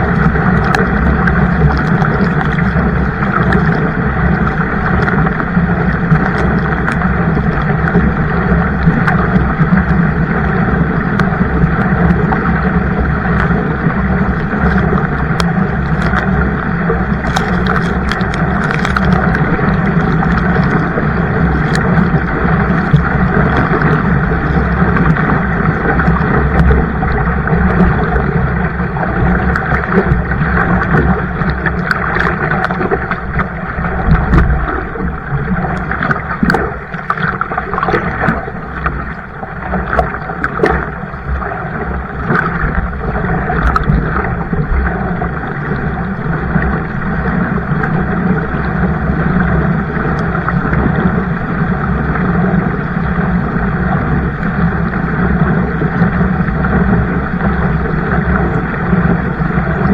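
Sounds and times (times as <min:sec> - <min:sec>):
water rushing: 0:00.0 - 0:59.9
wind over microphone: 0:00.0 - 0:59.9.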